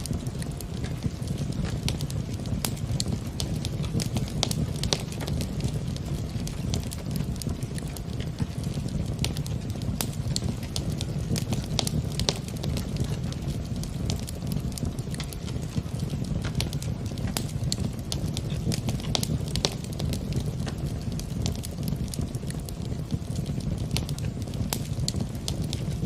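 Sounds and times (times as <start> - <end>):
fire crackling and popping: 0.0 - 26.0
steady low rumble: 0.0 - 26.0.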